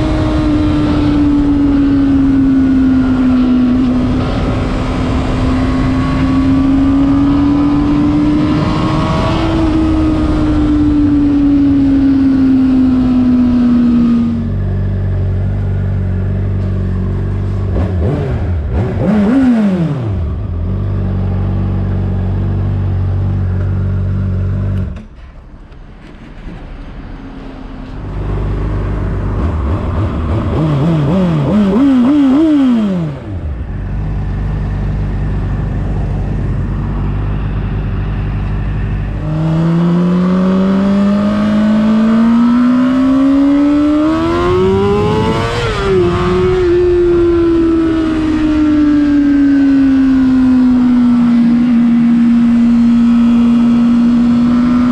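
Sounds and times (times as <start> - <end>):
motorcycle engine revving: 0.0 - 25.1, 28.0 - 54.9.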